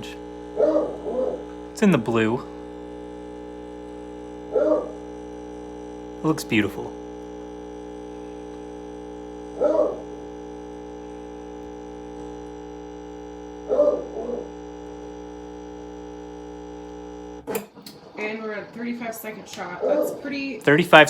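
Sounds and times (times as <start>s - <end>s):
espresso machine pump humming: 0.0s - 21.0s.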